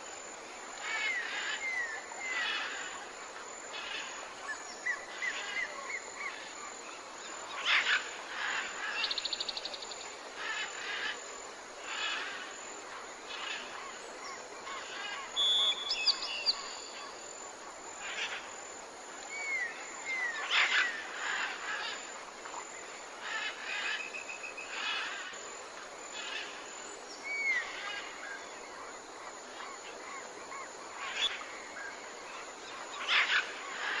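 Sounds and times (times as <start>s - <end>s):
steady outdoor hiss: 0.0s - 34.0s.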